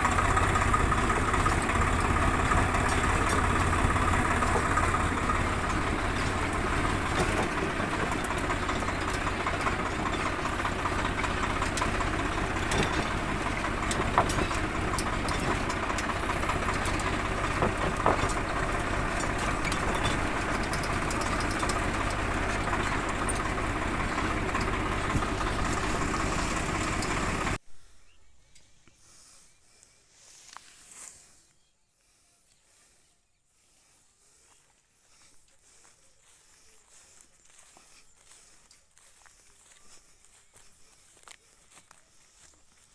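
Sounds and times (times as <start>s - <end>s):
tractor engine running: 0.0s - 27.7s, 33.6s - 42.9s.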